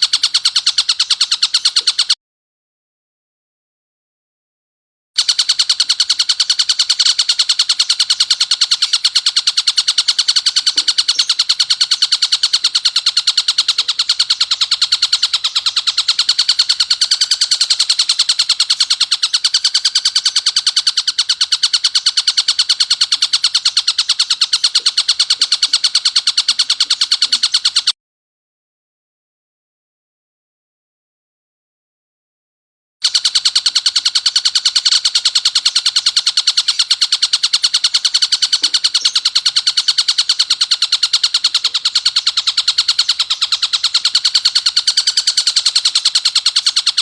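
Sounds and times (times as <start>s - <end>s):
kingfisher harsh rapid chatter: 0.0s - 2.2s, 5.2s - 27.9s, 33.0s - 47.0s.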